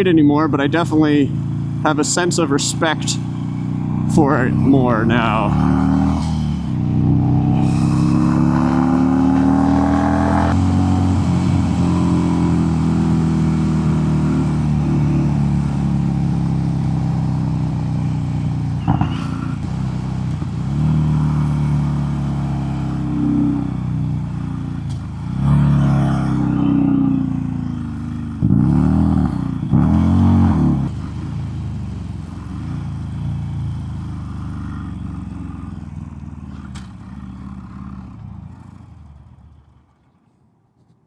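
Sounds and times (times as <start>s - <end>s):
motorcycle engine running: 0.0s - 40.2s.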